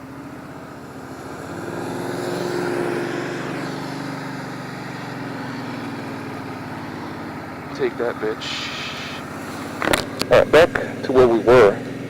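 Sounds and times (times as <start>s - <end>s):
motorcycle engine accelerating: 0.0s - 12.0s
wind and road noise: 0.0s - 12.0s.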